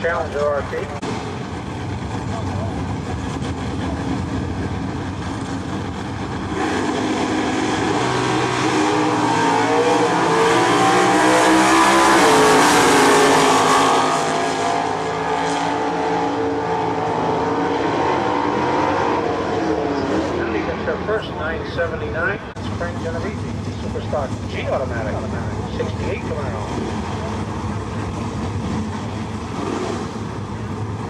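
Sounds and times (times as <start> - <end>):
drag cars accelerating: 0.0 - 31.0.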